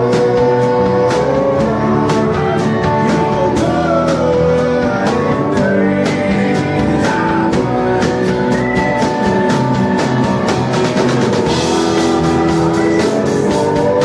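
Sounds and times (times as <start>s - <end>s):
drums beating: 0.0s - 14.0s
electric guitar: 0.0s - 14.0s
rock band playing: 0.0s - 14.0s.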